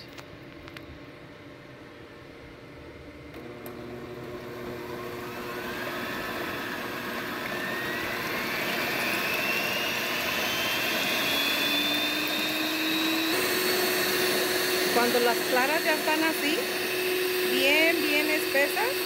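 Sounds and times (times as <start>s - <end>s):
electric mixer whisking egg whites: 3.4s - 19.0s
rising motor whine: 3.4s - 19.0s.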